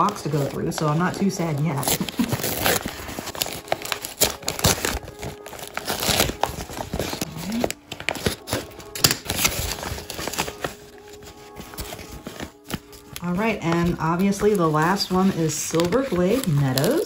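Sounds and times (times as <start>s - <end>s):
paper wrapping crinkling: 0.0s - 17.0s
knife slitting paper: 1.8s - 13.0s, 14.5s - 17.0s.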